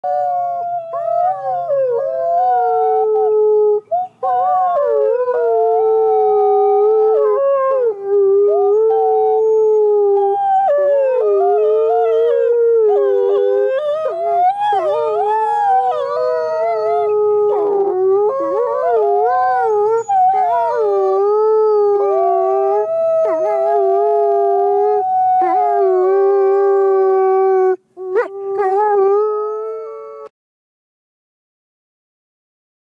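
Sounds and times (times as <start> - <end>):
wolves howling: 0.1 - 30.3.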